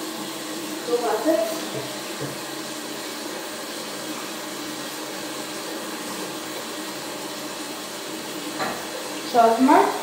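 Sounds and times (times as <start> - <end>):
tap water running into sink: 0.0 - 10.0.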